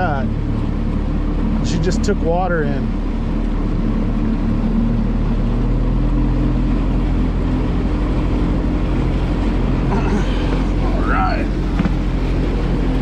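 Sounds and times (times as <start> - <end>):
motorboat engine droning: 0.0 - 13.0
water rushing along hull: 0.0 - 13.0.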